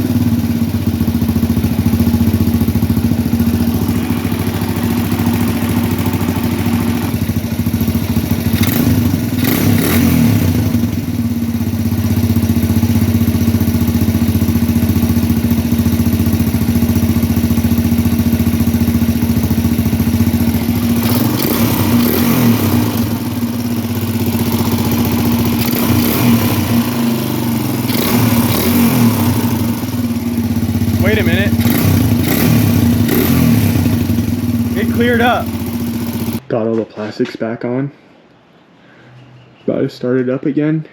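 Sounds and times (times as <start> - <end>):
dirt bike engine idling: 0.0 - 36.4
engine throttle blips: 0.0 - 36.4.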